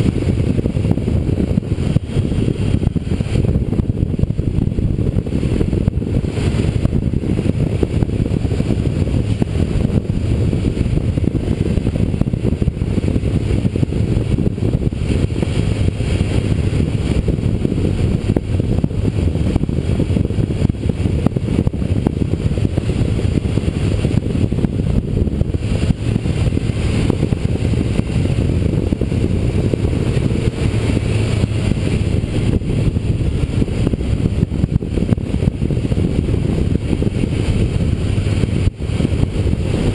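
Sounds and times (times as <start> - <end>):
motorcycle engine rumble: 0.0 - 39.9
wind rush: 0.0 - 39.9.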